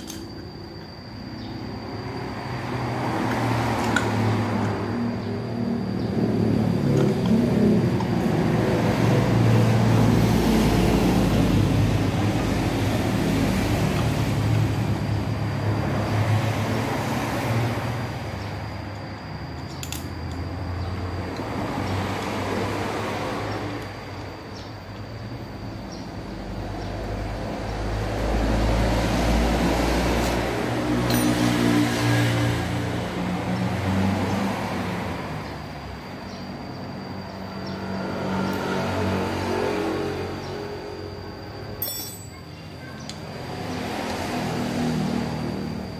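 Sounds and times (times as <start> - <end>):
vehicle engines running: 0.0 - 45.9.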